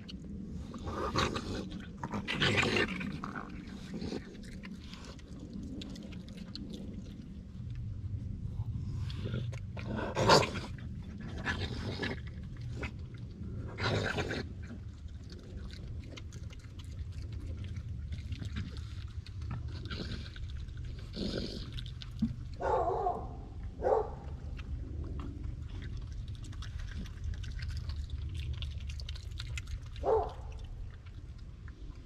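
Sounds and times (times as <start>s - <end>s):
raccoon snuffling and smacking: 0.0s - 32.0s
steady low hum: 0.0s - 32.0s.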